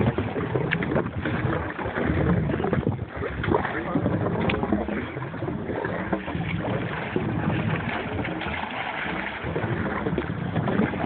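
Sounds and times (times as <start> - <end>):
boat motor idling: 0.0 - 11.0
wind buffeting microphone: 0.0 - 11.0.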